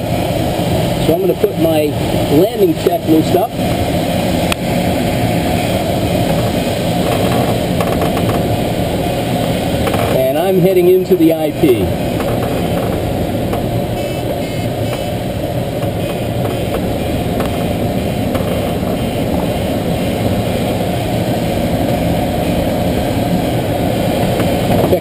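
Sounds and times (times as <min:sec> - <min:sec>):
rushing airflow in glider cockpit: 0:00.0 - 0:25.0.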